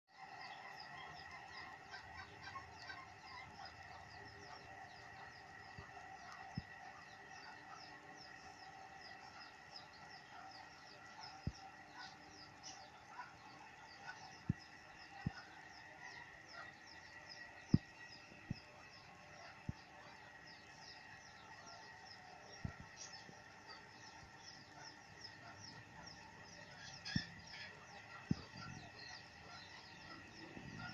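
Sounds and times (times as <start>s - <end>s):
faint steady hum: 0.1s - 30.9s
small birds chirping: 0.1s - 30.9s.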